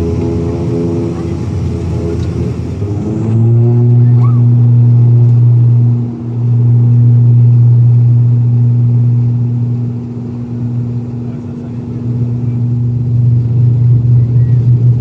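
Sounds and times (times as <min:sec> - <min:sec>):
turboprop engines at takeoff power: 0:00.0 - 0:15.0.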